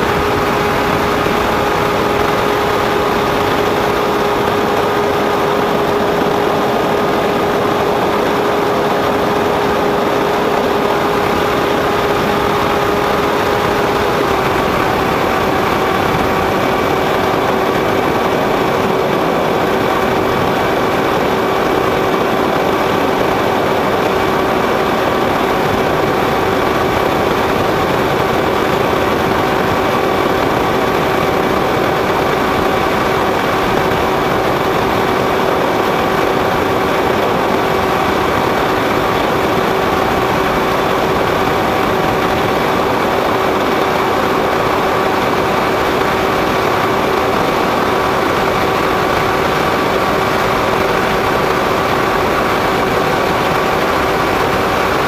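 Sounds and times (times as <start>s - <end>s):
model airplane motor hum: 0.0s - 55.0s
rushing wind noise: 0.0s - 55.0s.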